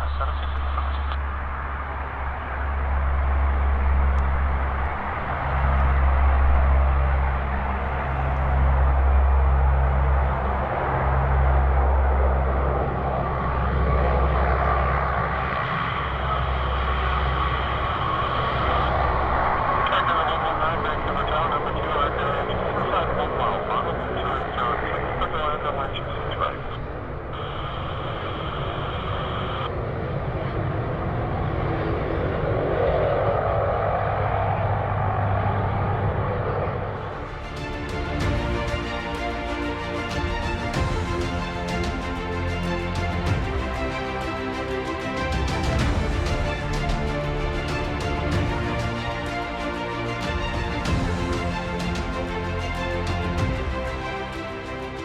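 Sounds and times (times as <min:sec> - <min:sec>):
low hum: 0:00.0 - 0:55.0
turboprop engines running: 0:00.0 - 0:55.0.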